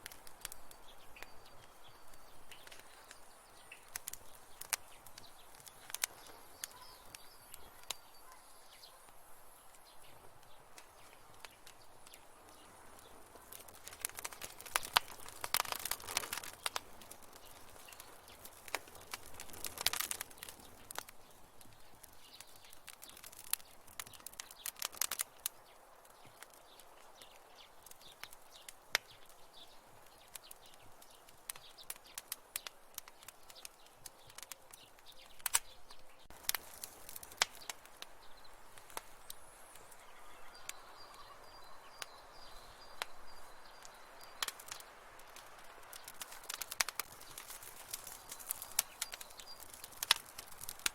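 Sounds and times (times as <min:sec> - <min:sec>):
soft fire hiss: 0:00.0 - 0:50.9
wood fire crackling: 0:00.0 - 0:50.9.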